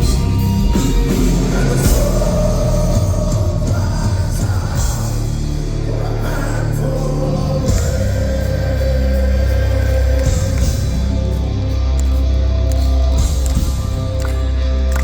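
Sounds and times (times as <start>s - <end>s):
sung vocals: 0.0s - 14.2s
live heavy metal band: 0.0s - 15.0s.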